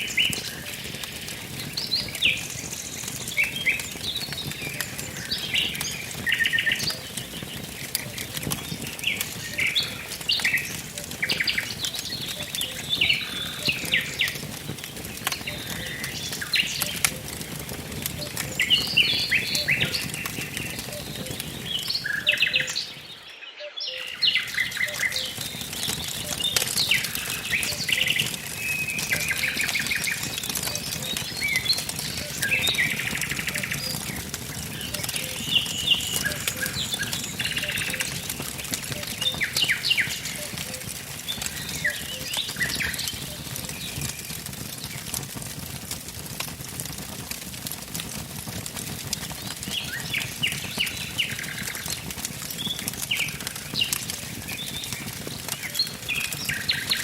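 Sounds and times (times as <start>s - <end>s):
wood fire crackling and popping: 0.0s - 23.3s, 23.9s - 57.0s
birdsong chirps and trills: 0.0s - 45.2s, 48.8s - 57.0s.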